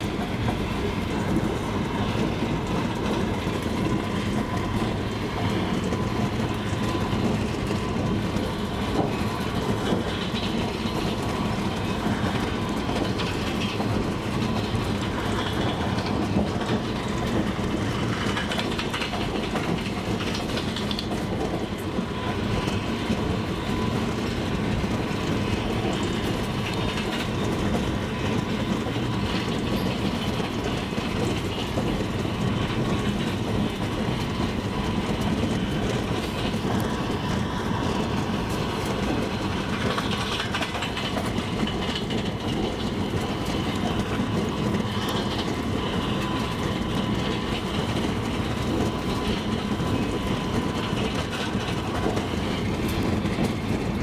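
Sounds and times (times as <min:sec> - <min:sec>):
rumble of moving train: 0:00.0 - 0:54.0
train wheels clattering over rail joints: 0:00.0 - 0:54.0.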